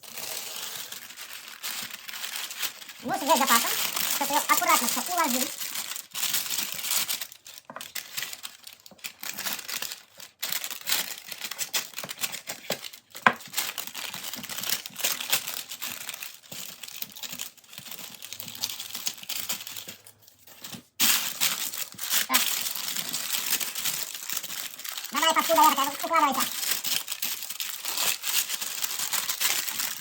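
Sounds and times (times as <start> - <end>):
baking paper crinkling: 0.0 - 30.0.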